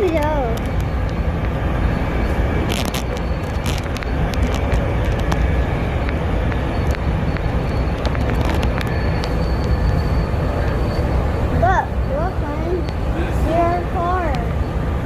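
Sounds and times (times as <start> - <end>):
train wheels rumbling on rail: 0.0 - 15.0
faint high whine: 0.3 - 15.0.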